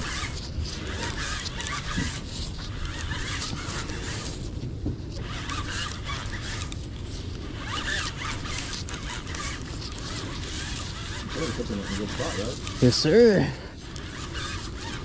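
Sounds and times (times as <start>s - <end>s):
fishing reel ratcheting: 0.0s - 15.0s
wind rumble on microphone: 0.0s - 15.0s.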